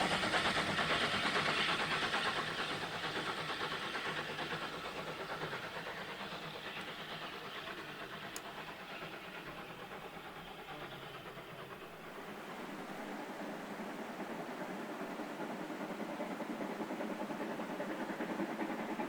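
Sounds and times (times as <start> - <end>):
steam locomotive running past: 0.0 - 19.0.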